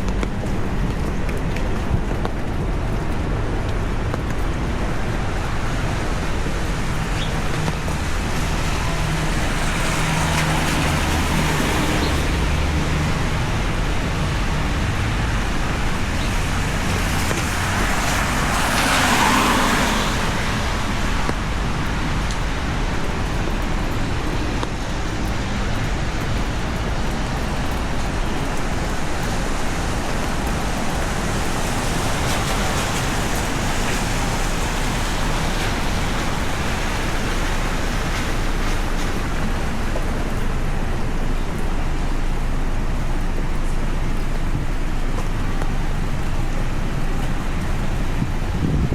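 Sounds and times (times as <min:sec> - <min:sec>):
traffic on wet street: 0:00.0 - 0:48.9
rain hissing: 0:03.2 - 0:48.9.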